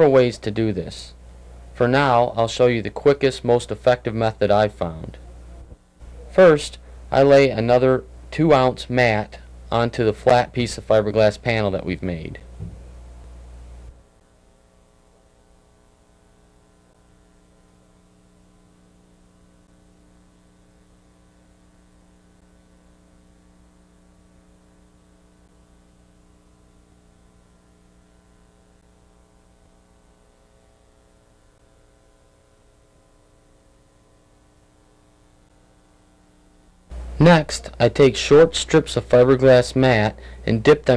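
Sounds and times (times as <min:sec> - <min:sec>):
faint mains hum: 0:00.0 - 0:40.9.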